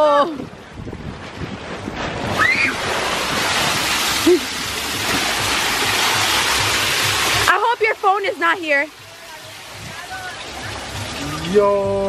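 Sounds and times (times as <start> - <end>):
water gushing onto concrete: 2.2 - 12.0.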